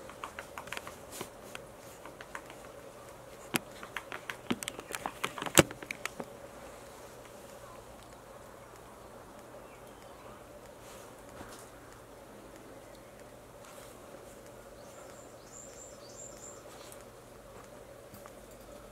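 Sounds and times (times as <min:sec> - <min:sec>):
woodpecker pecking at bark: 0:00.0 - 0:18.9.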